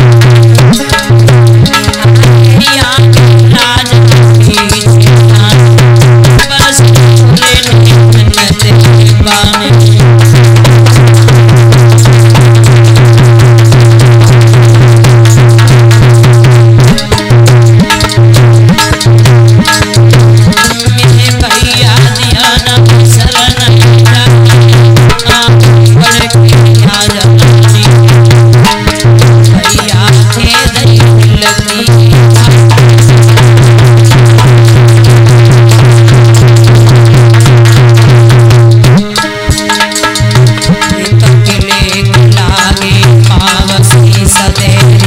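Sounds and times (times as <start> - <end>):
fast hand drum strokes: 0.0 - 45.0
quick rhythmic pulse: 0.0 - 45.0.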